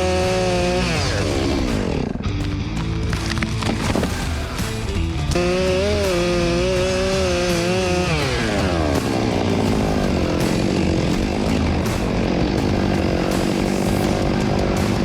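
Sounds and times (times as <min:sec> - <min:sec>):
chainsaw cutting log: 0:00.0 - 0:02.3, 0:03.0 - 0:15.0.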